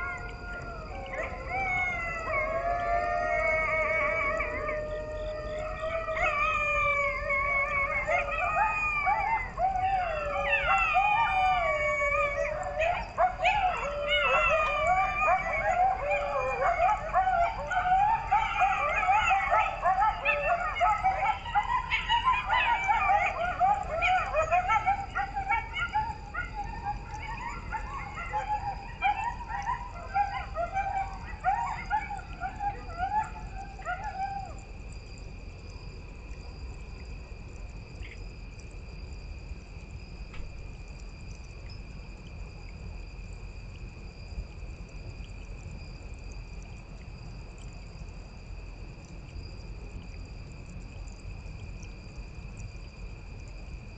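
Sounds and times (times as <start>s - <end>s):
coyotes howling and yipping: 0.0s - 53.9s.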